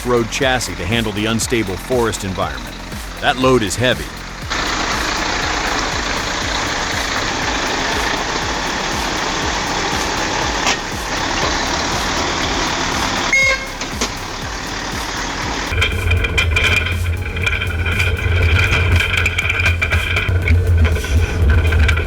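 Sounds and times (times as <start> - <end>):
truck straining through mud: 0.0 - 22.0.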